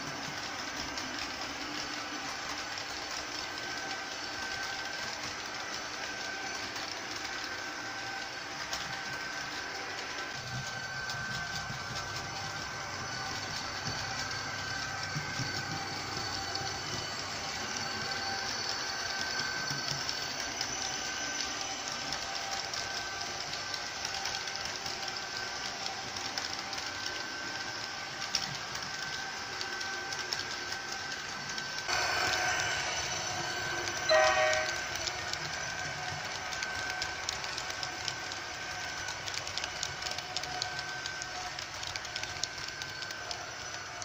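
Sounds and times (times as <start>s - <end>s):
model train motor whine: 0.0s - 44.0s
wheels rolling on rails: 0.0s - 44.0s.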